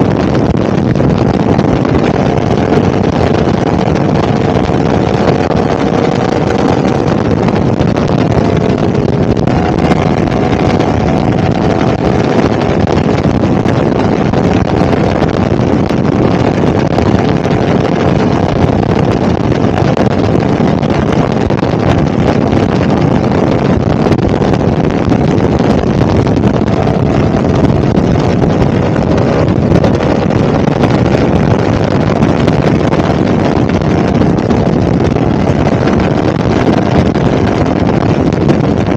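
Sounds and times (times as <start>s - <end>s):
motorcycle engine running steadily: 0.0s - 38.9s
wind buffeting microphone: 0.0s - 38.9s.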